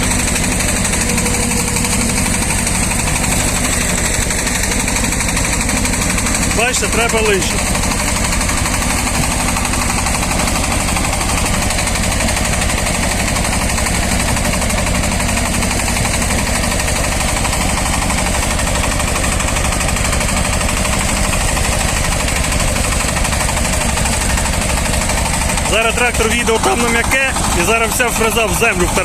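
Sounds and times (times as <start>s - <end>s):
diesel engine clattering under load: 0.0s - 29.0s.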